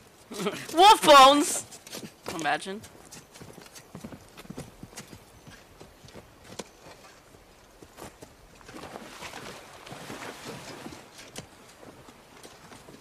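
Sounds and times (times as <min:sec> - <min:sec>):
horse hooves clopping: 0:00.0 - 0:13.0.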